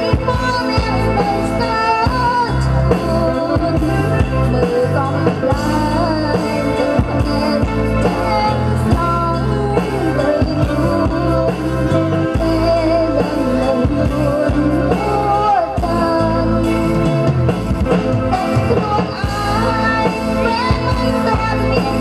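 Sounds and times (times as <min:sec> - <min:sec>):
live band with guitar and keyboard: 0:00.0 - 0:22.0
woman singing into a microphone: 0:00.0 - 0:22.0.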